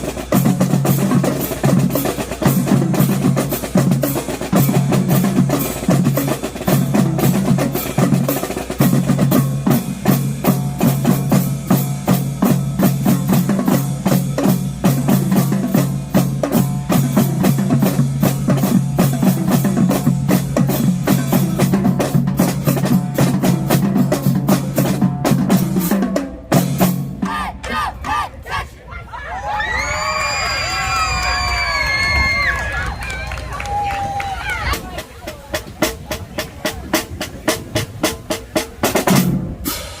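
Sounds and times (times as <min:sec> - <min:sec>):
marching drumline playing: 0:00.0 - 0:28.3, 0:33.2 - 0:40.0.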